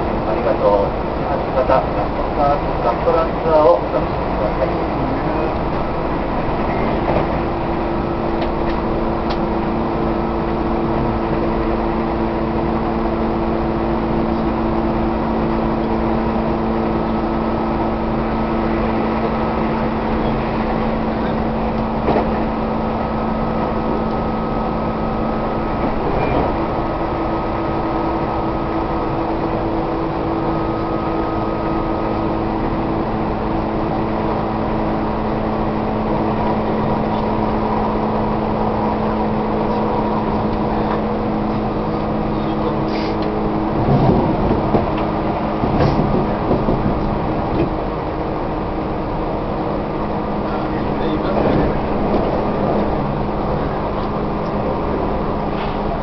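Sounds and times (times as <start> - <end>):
train motor hum: 0.0 - 56.0
train wheels rumbling on rail: 0.0 - 56.0.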